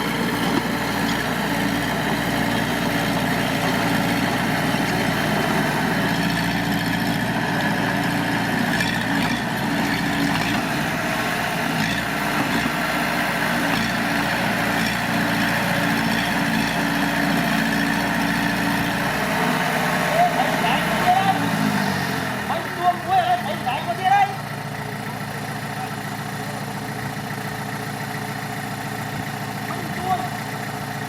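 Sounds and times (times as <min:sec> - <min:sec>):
diesel engine drone: 0:00.0 - 0:31.0.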